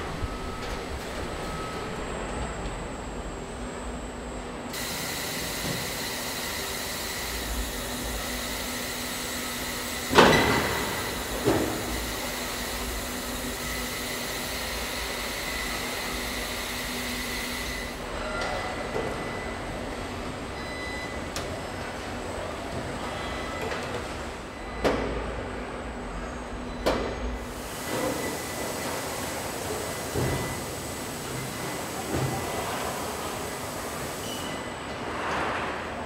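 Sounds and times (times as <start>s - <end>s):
conveyor mechanical hum: 0.0s - 36.0s.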